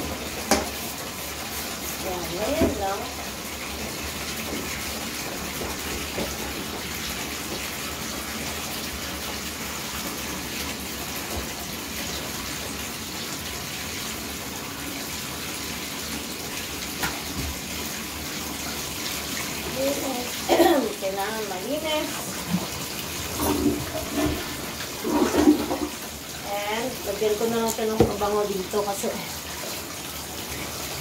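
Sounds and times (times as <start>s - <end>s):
running water hissing: 0.0s - 31.0s.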